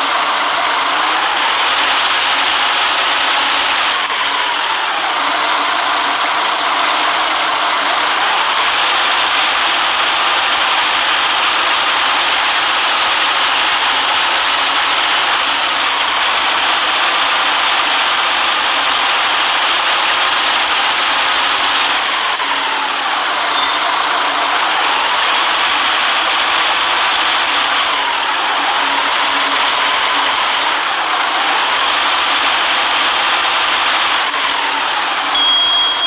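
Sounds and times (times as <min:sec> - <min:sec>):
bus engine and road noise: 0:00.0 - 0:36.0.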